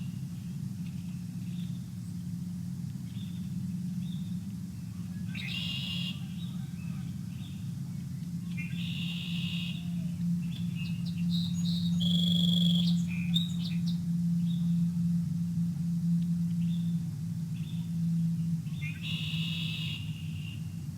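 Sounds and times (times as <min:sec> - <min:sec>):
songbirds calling: 0:00.0 - 0:20.9
steady low hum: 0:00.0 - 0:20.9.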